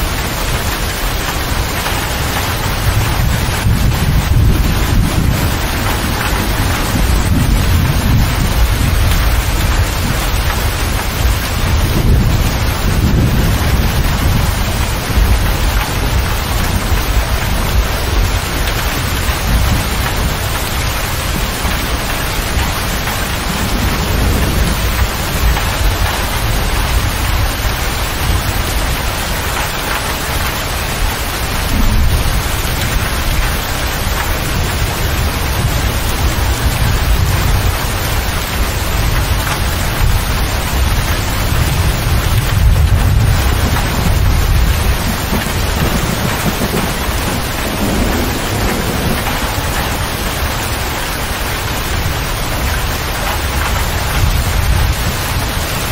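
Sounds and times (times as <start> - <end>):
heavy rain drumming on a cab roof: 0.0 - 55.9.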